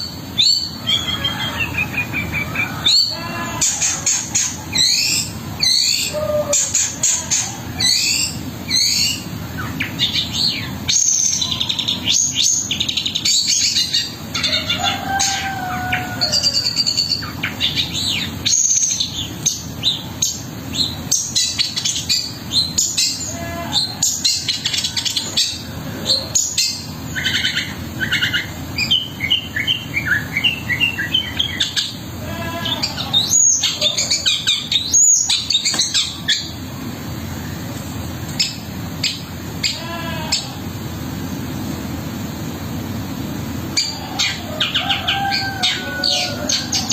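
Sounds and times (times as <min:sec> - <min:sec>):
shrike singing varied song: 0:00.0 - 0:46.9
steady low hum: 0:00.0 - 0:46.9.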